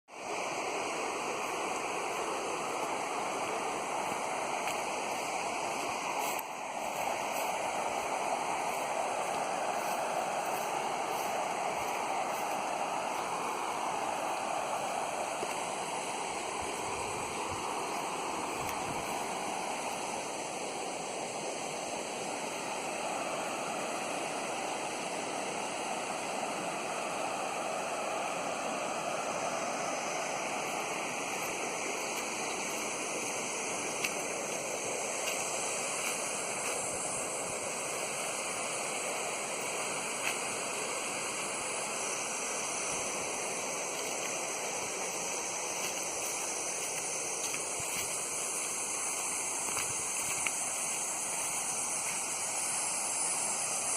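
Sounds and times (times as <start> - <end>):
stream water rushing: 0.1 - 53.9.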